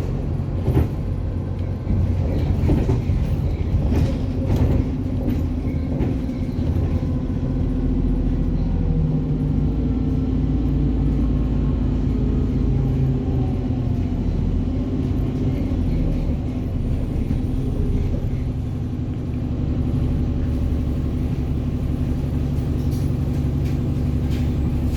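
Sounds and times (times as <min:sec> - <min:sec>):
bus diesel engine droning: 0:00.0 - 0:24.9.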